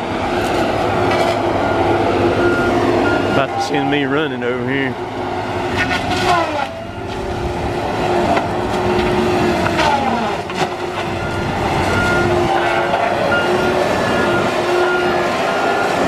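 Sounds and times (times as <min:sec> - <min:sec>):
diesel engine and hydraulics drone: 0:00.0 - 0:16.0.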